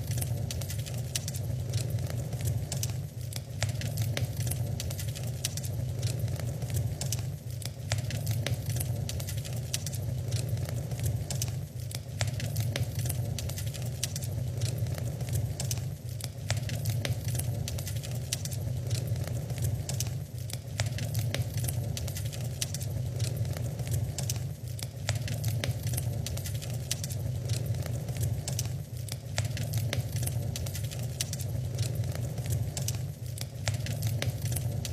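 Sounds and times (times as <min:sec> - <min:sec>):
fire popping and snapping: 0:00.0 - 0:34.9
low fire rumble: 0:00.0 - 0:34.9
wood fire crackling: 0:00.0 - 0:34.9.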